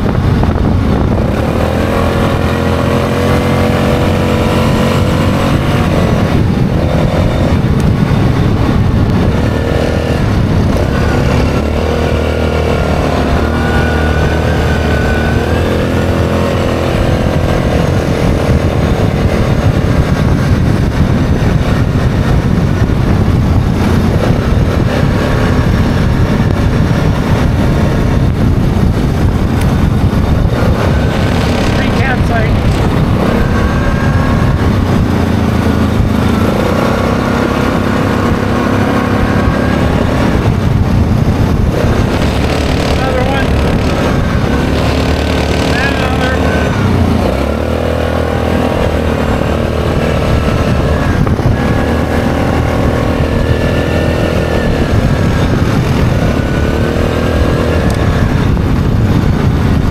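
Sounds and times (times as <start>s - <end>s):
atv engine running: 0.0s - 59.9s
rush of noise: 0.0s - 59.9s.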